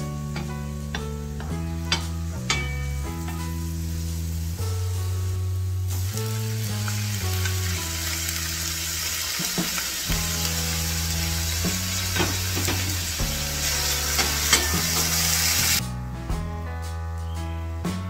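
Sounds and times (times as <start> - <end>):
onions sizzling in frying pan: 0.2 - 15.8.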